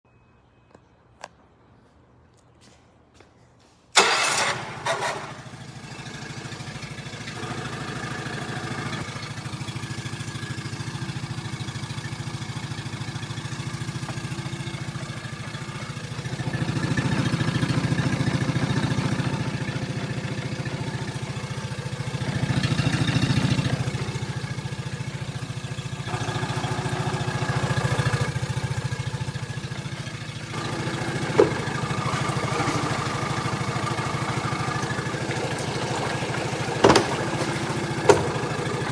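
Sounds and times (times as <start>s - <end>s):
outboard motor idling and revving: 4.0s - 38.9s.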